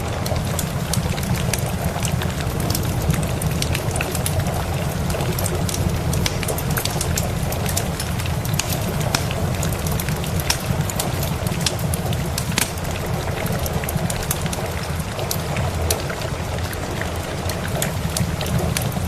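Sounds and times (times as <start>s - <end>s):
crackling wood fire: 0.0s - 19.0s
steady rain: 0.0s - 19.0s
sharp pops and ticks: 0.6s - 16.0s.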